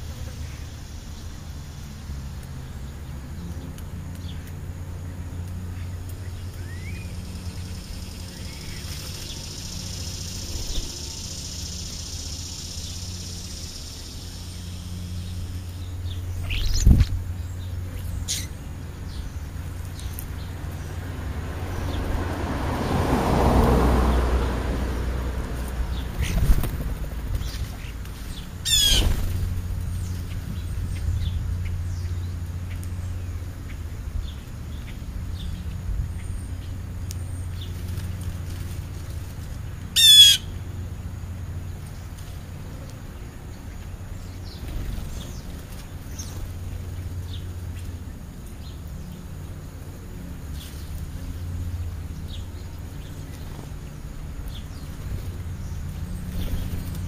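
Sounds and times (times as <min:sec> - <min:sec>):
small birds chirping: 0:00.0 - 0:22.8, 0:25.2 - 0:57.0
low steady hum: 0:00.0 - 0:57.0.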